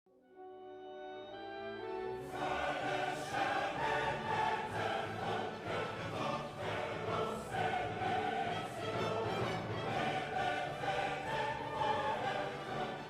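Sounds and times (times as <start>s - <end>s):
orchestral backing: 0.2s - 13.0s
choir singing sustained chords: 1.2s - 13.0s.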